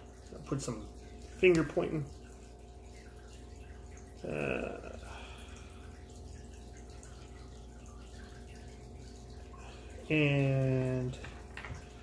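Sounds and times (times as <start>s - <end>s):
aquarium filter humming: 0.0s - 12.0s
water trickling: 0.0s - 12.0s.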